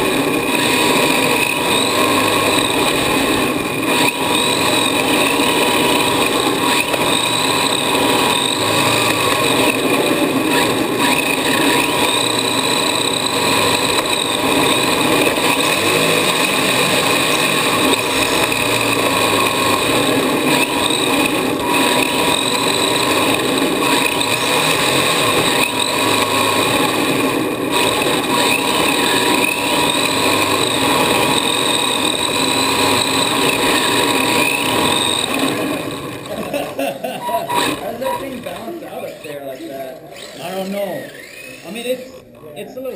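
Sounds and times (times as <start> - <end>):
rc car motor whining: 0.0 - 42.9.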